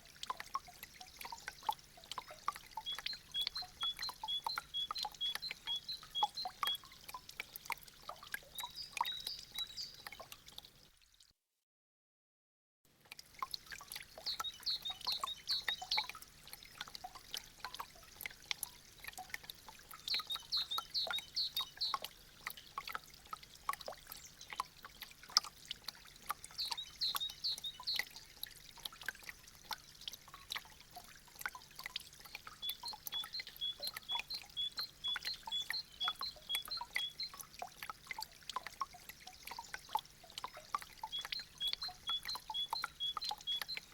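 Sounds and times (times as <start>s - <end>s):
water dripping and splashing: 0.0s - 11.4s, 12.9s - 43.9s
light water trickle: 0.0s - 11.5s, 12.9s - 43.9s.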